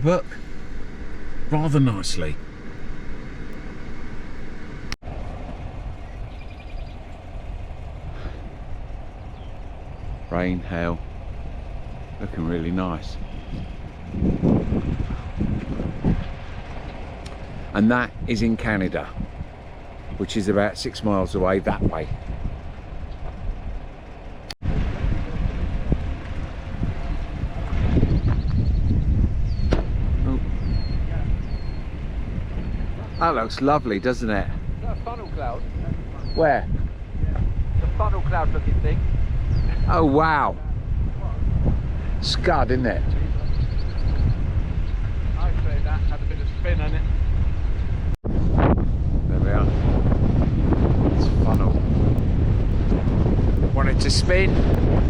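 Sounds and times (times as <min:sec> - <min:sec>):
road and engine rumble: 0:00.0 - 0:55.0
wind noise: 0:00.0 - 0:55.0.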